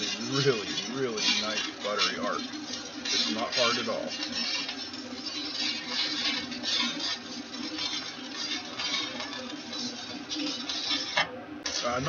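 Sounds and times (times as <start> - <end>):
welding arc crackling sizzle: 0.0 - 12.0.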